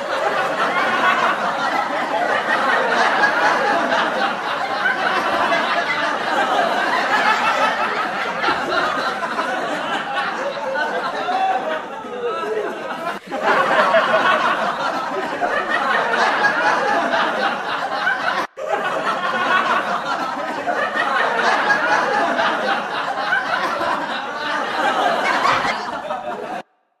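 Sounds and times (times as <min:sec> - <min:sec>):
crowd laughing: 0:00.0 - 0:26.9.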